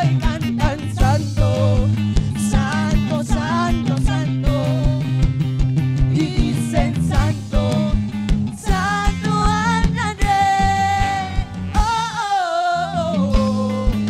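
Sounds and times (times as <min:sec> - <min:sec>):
worship band playing: 0:00.0 - 0:14.0.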